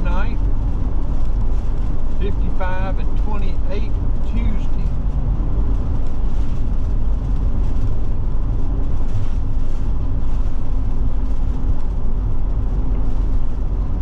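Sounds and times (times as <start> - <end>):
vehicle engine and tyre rumble: 0.0 - 14.0.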